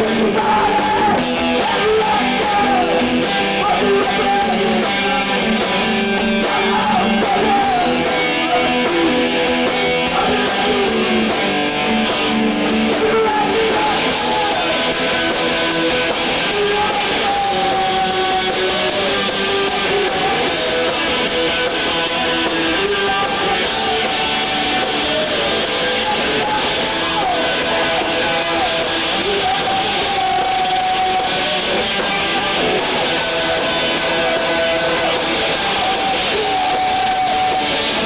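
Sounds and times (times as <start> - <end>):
distorted electric guitars: 0.0 - 38.0
drums with cymbal hits: 0.0 - 38.0.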